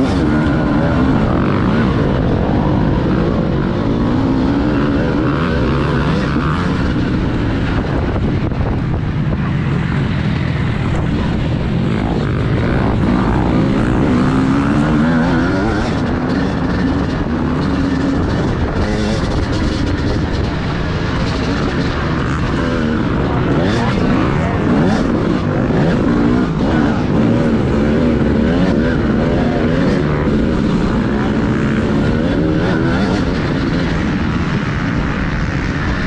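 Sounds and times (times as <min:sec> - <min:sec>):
motocross bike engine revving: 0:00.0 - 0:36.0.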